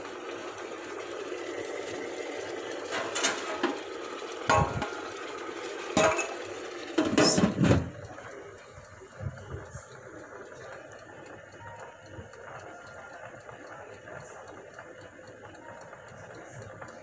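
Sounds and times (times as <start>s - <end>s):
food steamer hissing: 0.0s - 17.0s.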